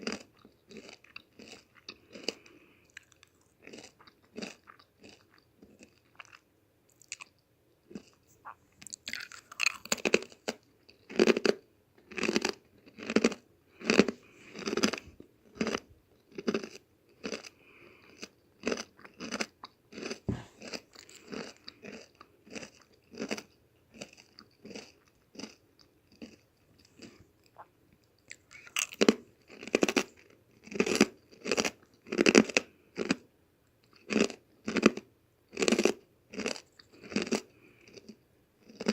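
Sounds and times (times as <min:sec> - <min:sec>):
crunchy chewing: 0:00.0 - 0:33.2, 0:33.8 - 0:38.9.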